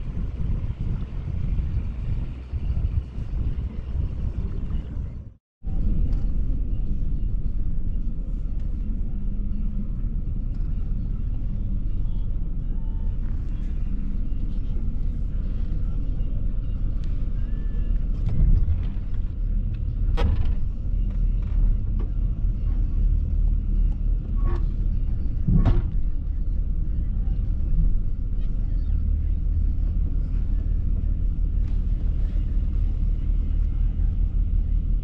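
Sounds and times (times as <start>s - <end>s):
low engine rumble: 0.0s - 35.0s.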